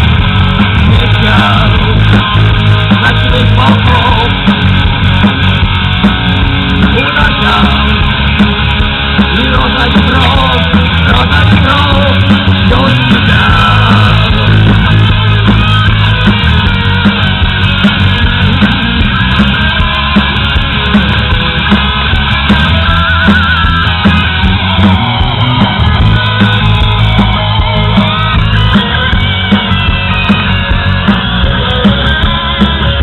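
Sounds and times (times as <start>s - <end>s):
rock music with guitar: 0.0s - 33.0s
steady drum beat: 0.0s - 33.0s.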